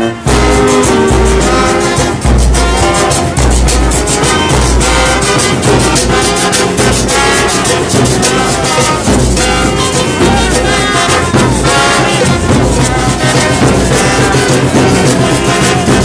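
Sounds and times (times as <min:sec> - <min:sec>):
brass horns playing melody: 0:00.0 - 0:16.0
drums and cymbals beat: 0:00.0 - 0:16.0.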